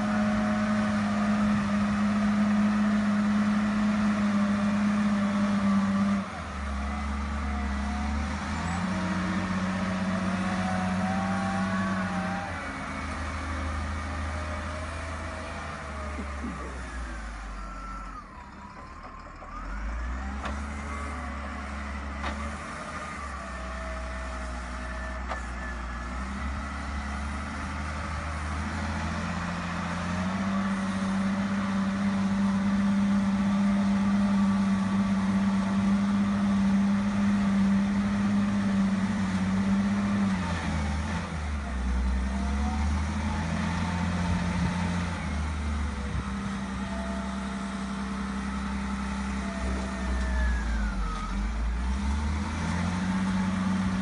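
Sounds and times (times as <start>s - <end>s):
wheel loader diesel engine revving: 0.0s - 54.0s.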